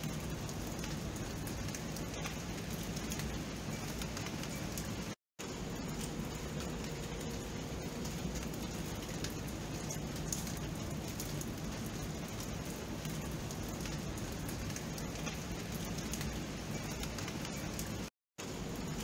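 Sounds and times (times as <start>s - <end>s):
rain falling: 0.0s - 19.0s
raindrop ticks: 0.0s - 19.0s.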